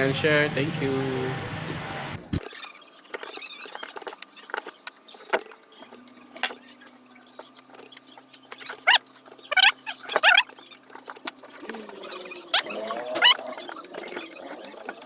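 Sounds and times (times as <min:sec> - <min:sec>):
short squeaks: 0:02.4 - 0:15.0.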